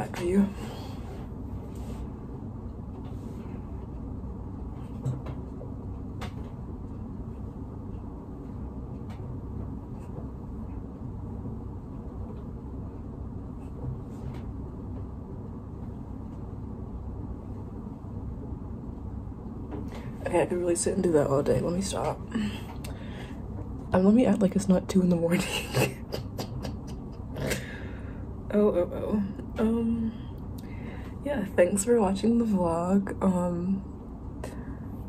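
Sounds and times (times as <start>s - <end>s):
low background rumble: 0.0s - 35.0s.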